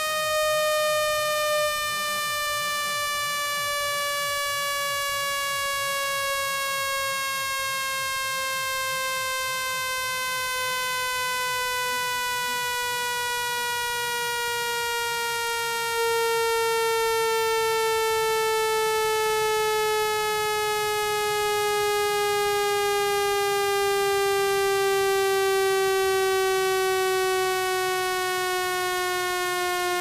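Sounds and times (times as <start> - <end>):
buzzy electronic tone: 0.0 - 30.0.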